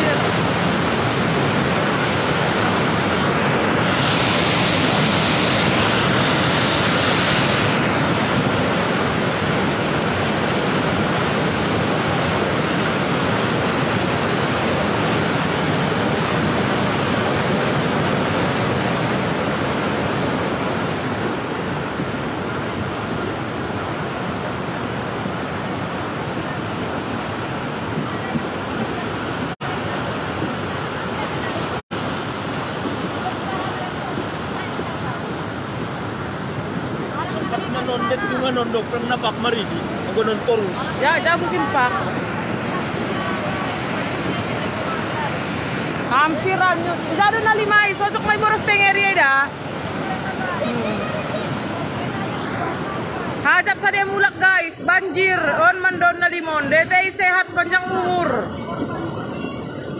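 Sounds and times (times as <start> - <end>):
floodwater rushing over dam: 0.0 - 59.9.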